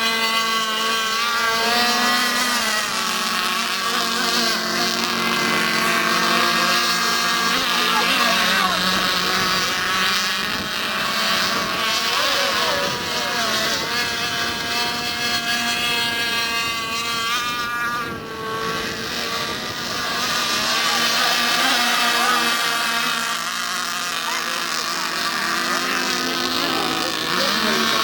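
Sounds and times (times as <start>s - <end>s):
rc boat engines whining: 0.0s - 28.0s.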